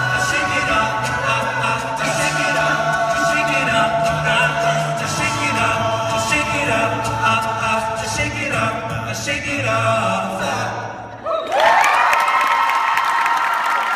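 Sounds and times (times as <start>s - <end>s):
men singing a cappella harmony: 0.0s - 11.2s.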